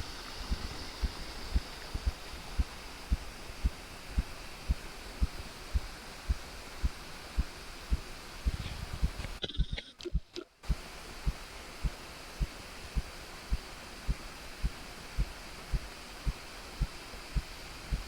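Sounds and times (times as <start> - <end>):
dull low thuds like footsteps: 0.0 - 18.0
faint steady hiss: 0.0 - 18.0.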